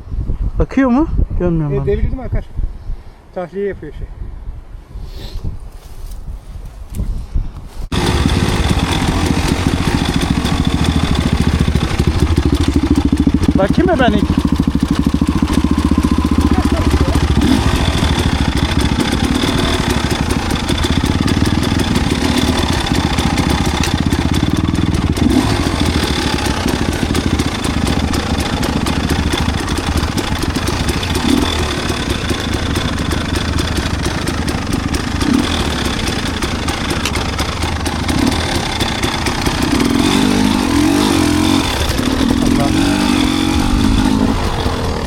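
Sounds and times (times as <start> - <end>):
dirt bike engine running: 7.9 - 45.0.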